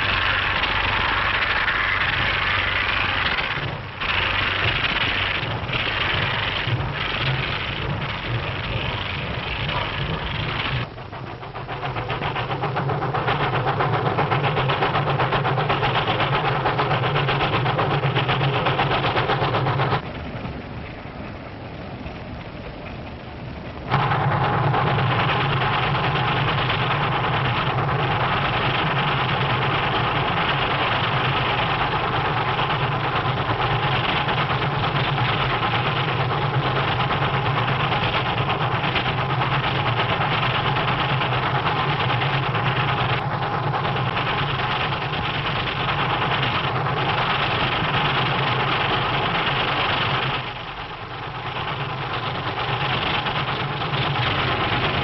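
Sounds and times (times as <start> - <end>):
steam locomotive running: 0.0 - 55.0.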